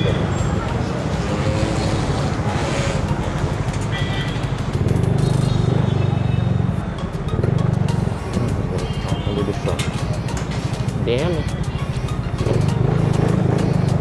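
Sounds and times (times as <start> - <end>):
scooter engine running: 0.0 - 9.3, 10.2 - 14.0.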